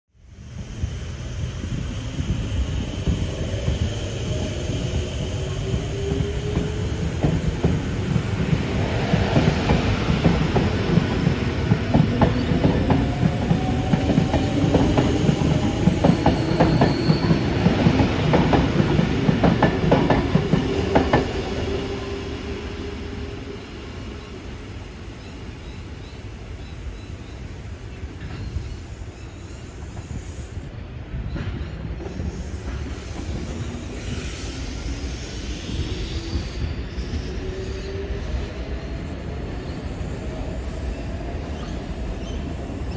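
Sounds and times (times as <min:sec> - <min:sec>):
electric train running past: 0:00.2 - 0:42.9.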